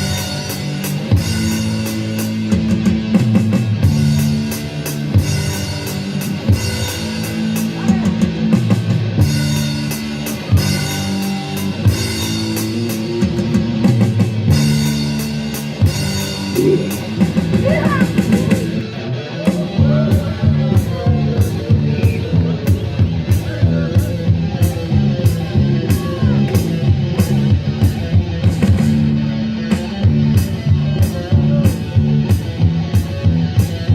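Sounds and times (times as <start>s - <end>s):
rock band playing: 0.0s - 33.9s.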